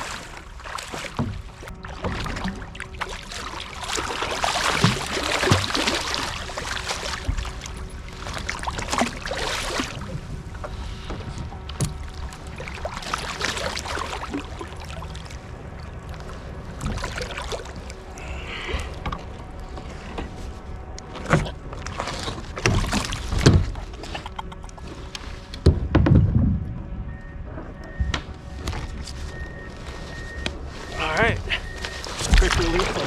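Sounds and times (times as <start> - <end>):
water splashing around kayak: 0.0 - 26.8, 28.3 - 33.0.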